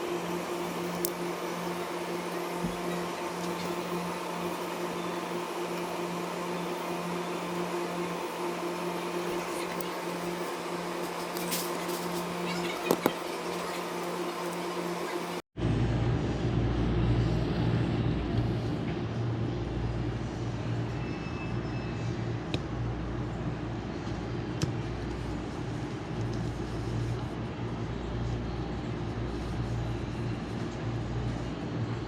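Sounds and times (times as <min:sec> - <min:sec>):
machine low hum: 0:00.0 - 0:32.0.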